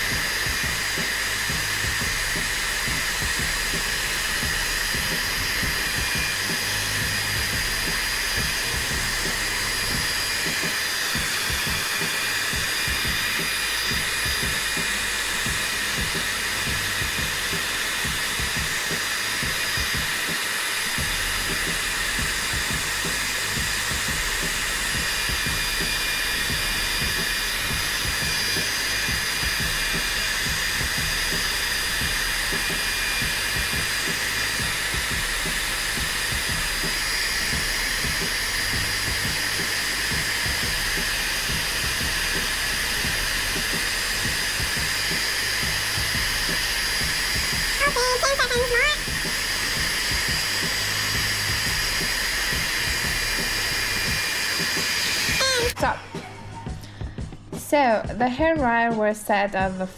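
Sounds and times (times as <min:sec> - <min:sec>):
hair dryer blowing: 0:00.0 - 0:57.5.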